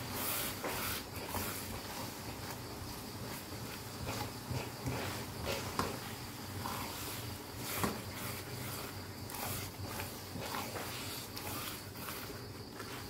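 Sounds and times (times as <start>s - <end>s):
paste sizzling: 0.0s - 13.0s
spatula scraping wok: 0.0s - 13.0s.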